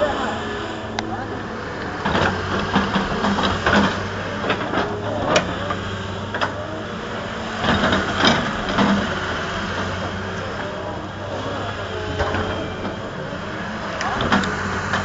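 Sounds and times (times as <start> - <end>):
construction machine engine running: 0.0 - 15.0
metallic clanks and knocks: 0.9 - 15.0.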